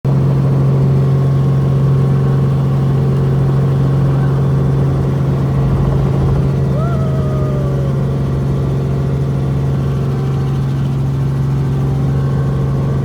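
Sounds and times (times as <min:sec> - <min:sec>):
helicopter engine and rotor drone: 0:00.1 - 0:13.0.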